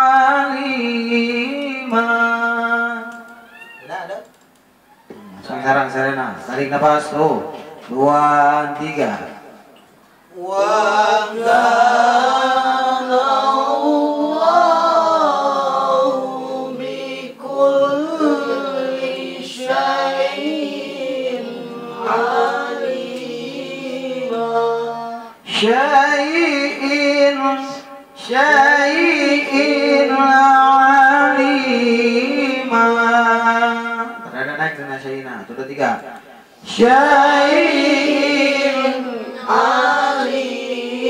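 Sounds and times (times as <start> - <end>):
man chanting recitation: 0.0 - 3.4, 5.2 - 9.6, 10.3 - 40.4.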